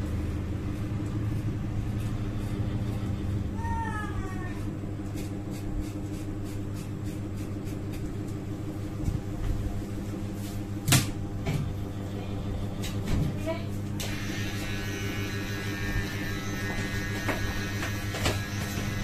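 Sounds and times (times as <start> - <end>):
low electric hum: 0.0 - 19.0.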